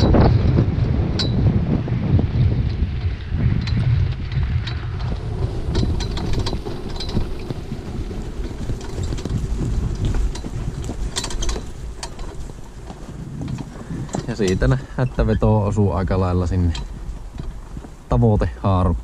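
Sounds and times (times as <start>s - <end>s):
wind rumbling on microphone: 0.0s - 19.0s
sharp clicks and rattles: 2.4s - 19.0s.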